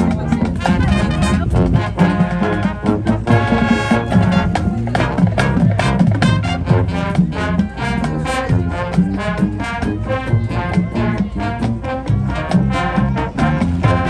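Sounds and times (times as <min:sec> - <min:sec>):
brass horns: 0:00.0 - 0:14.0
drumline: 0:00.0 - 0:14.0.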